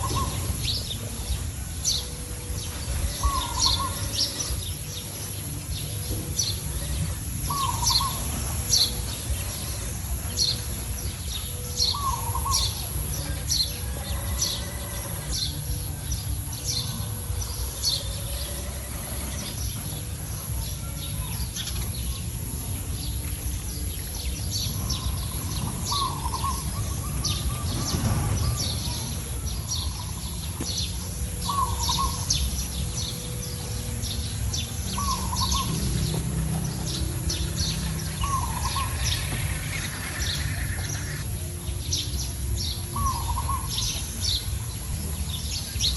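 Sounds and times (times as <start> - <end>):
steady low rumble: 0.0 - 45.9.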